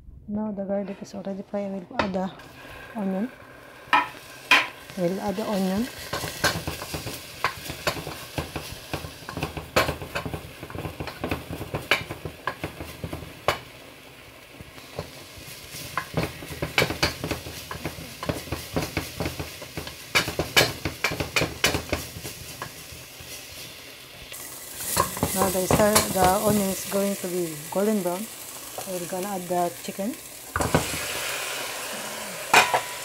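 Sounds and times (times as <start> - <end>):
oil sizzling: 1.4 - 33.0.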